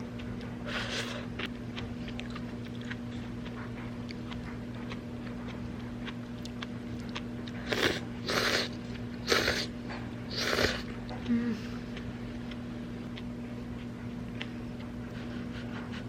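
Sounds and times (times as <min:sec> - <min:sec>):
person chewing crunchy food: 0:00.0 - 0:16.0
steady low hum: 0:00.0 - 0:16.0.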